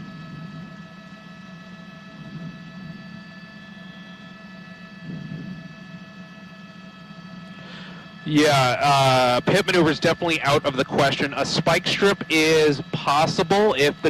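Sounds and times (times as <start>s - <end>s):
helicopter drone with whining tones: 0.0s - 14.0s.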